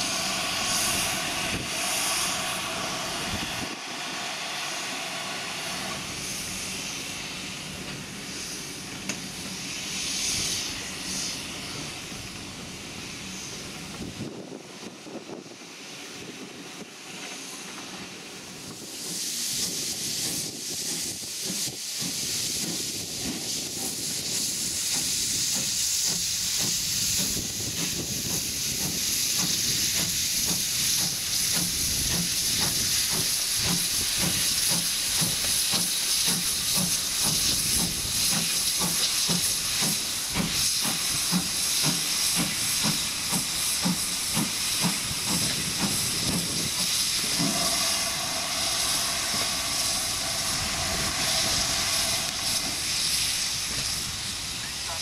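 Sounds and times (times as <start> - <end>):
steam locomotive chuffing: 0.0 - 55.0
steam locomotive cylinder hissing: 0.0 - 55.0.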